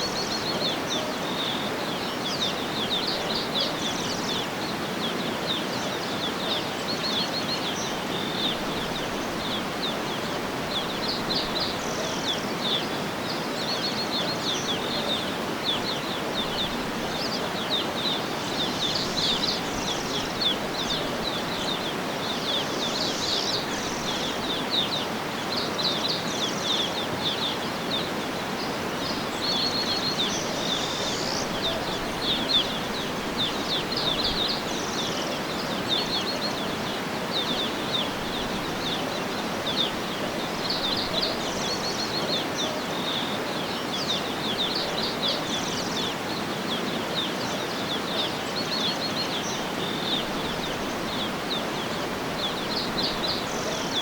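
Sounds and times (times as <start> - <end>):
small birds chirping: 0.0 - 54.0
steady background hiss: 0.0 - 54.0.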